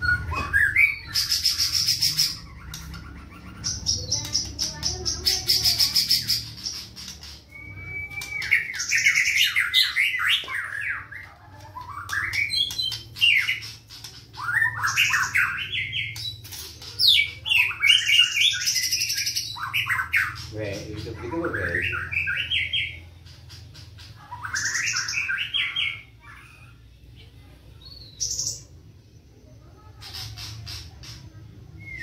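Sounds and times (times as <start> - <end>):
bird singing: 0.0 - 29.0, 29.9 - 32.0.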